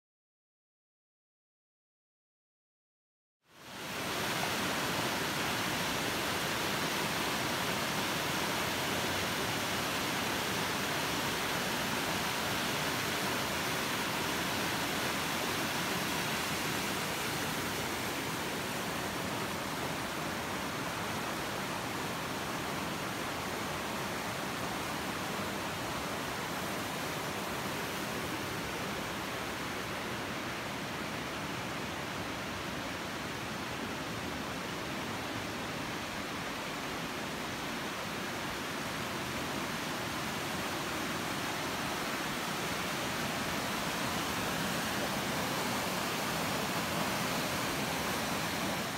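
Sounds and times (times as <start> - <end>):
river rushing with rain: 3.5 - 48.9.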